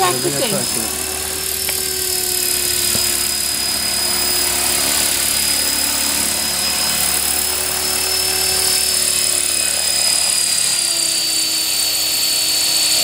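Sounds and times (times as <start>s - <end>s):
model helicopter motor whine: 0.0s - 13.0s.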